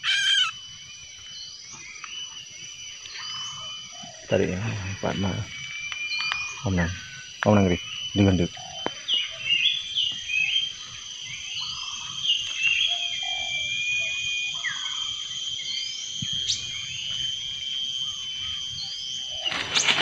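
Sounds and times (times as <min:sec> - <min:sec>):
small birds chirping: 0:00.0 - 0:20.0
steady high-pitched whine: 0:00.0 - 0:20.0.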